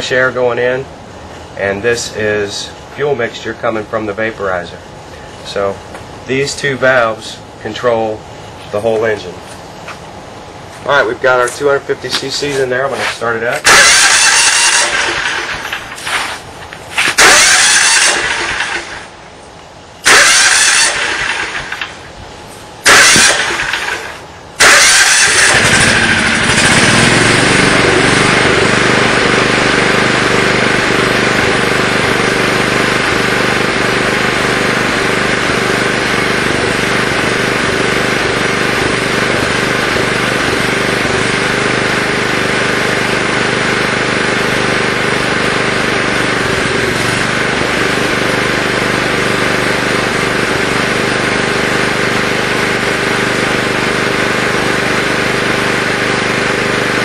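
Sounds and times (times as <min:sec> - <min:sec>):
generator engine starting and running: 0:00.0 - 0:57.0.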